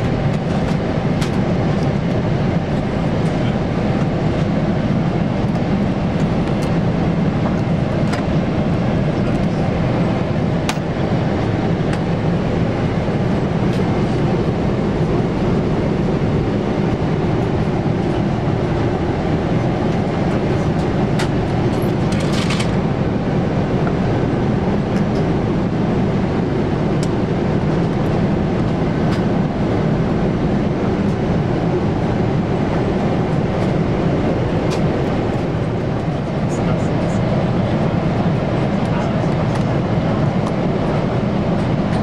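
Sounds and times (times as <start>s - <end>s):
airplane cabin rumble: 0.0s - 42.0s.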